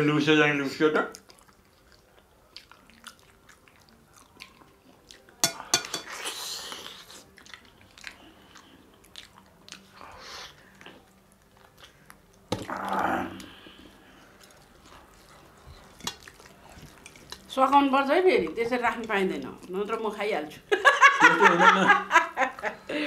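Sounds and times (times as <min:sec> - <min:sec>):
chewing food: 0:01.0 - 0:20.1.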